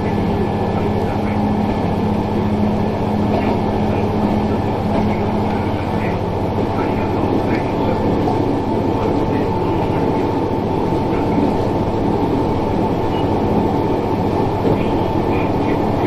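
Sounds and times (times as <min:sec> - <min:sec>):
constant high hum: 0:00.0 - 0:16.0
railcar engine and running noise: 0:00.0 - 0:16.0.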